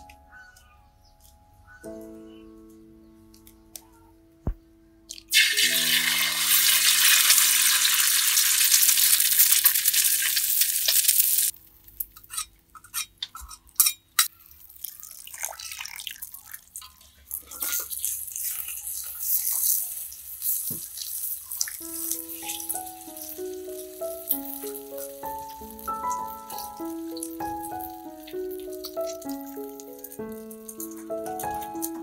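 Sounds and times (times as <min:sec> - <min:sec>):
egg sizzling in hot oil: 0:05.3 - 0:13.0, 0:13.8 - 0:32.0.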